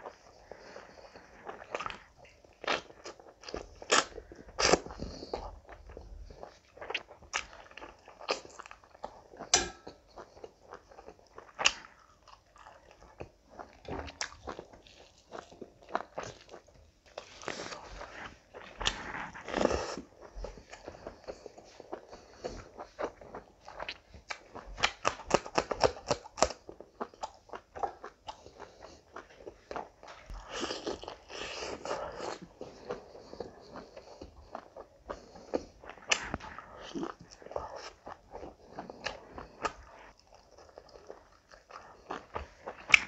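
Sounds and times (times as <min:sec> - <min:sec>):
person chewing and biting food: 0:00.0 - 0:43.0.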